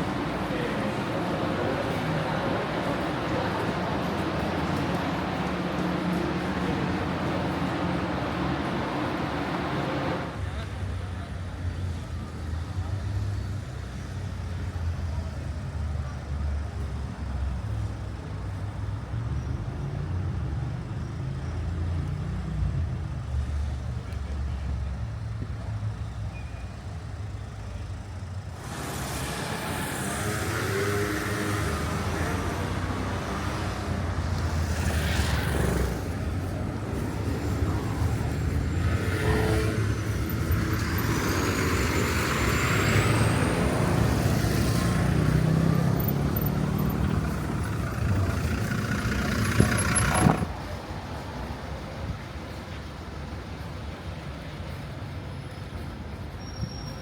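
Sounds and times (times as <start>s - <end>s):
vehicle and traffic noise: 0.0s - 57.0s.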